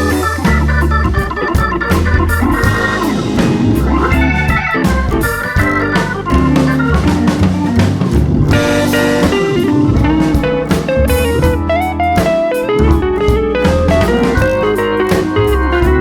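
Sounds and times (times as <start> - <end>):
blues band playing: 0.0 - 16.0.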